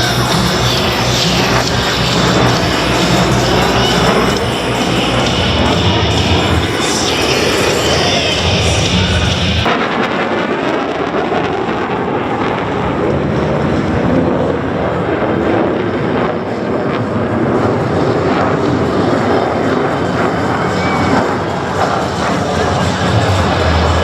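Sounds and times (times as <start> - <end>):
fighter jet engine noise: 0.0 - 24.0.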